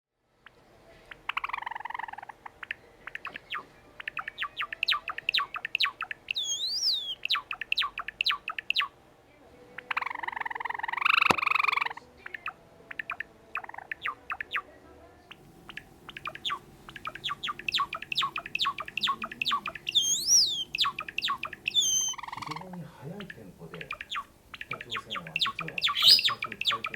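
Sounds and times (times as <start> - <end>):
sparrow singing: 0.4 - 9.0, 9.8 - 14.7, 15.3 - 26.9
bird harsh calls: 1.1 - 8.9, 9.9 - 14.6, 15.4 - 26.9.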